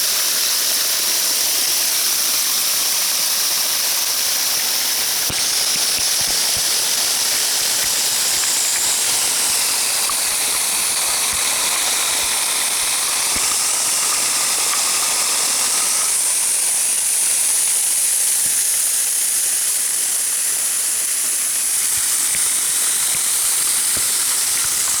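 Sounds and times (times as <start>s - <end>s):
shower water running: 0.0s - 25.0s.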